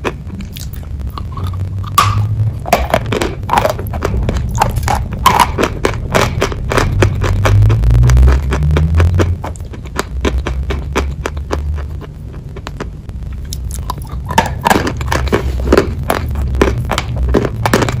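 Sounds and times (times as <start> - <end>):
crunching and chewing chalky food: 0.0 - 18.0.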